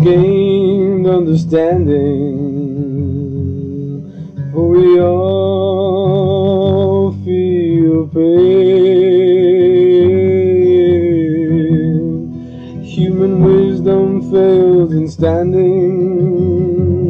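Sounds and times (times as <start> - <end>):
person singing with vibrato: 0.0 - 17.0.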